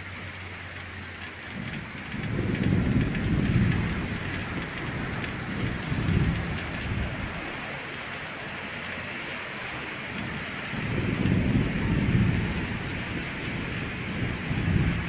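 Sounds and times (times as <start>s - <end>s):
rain hissing: 0.0s - 15.0s
thunder rolling: 1.2s - 15.0s.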